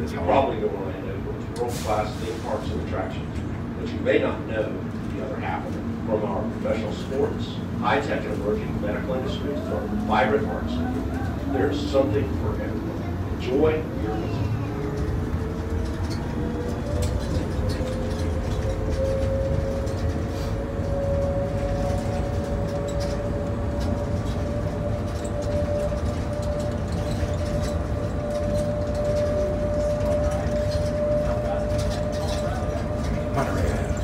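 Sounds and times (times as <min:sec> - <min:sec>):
shuttle train rumble: 0:00.0 - 0:34.0.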